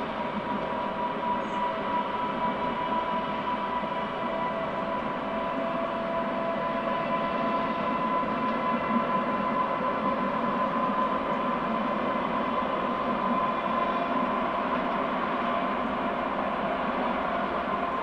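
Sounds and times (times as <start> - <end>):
diesel locomotive passing: 0.0 - 18.0
steady high whine: 0.0 - 18.0.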